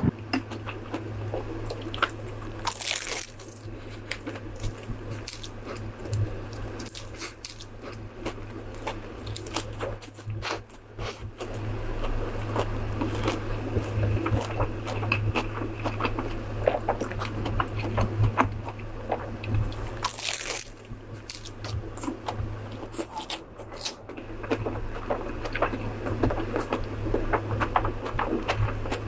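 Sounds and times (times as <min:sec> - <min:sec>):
crunchy bites and chewing: 0:00.0 - 0:29.0
steady low hum: 0:00.0 - 0:29.0.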